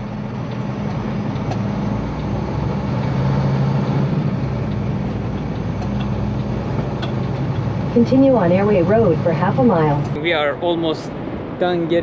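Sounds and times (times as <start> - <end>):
truck diesel engine humming: 0.0 - 12.0.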